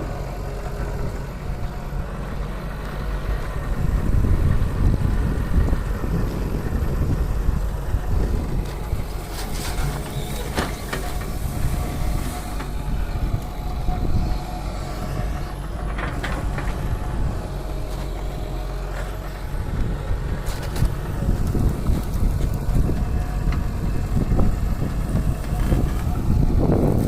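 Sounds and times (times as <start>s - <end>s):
excavator diesel engine rumbling: 0.0s - 27.0s.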